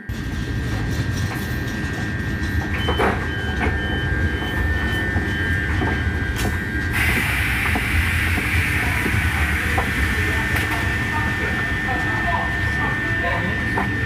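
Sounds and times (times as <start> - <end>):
train rumbling on rails: 0.0 - 14.0
wheels clicking on track: 0.1 - 12.1
steady high tone: 0.1 - 14.0.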